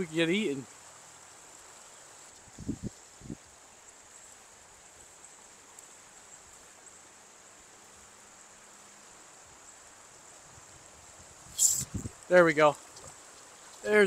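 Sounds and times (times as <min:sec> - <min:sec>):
high-pitched insect buzz: 0:00.0 - 0:14.0
soft hiss: 0:00.0 - 0:14.0.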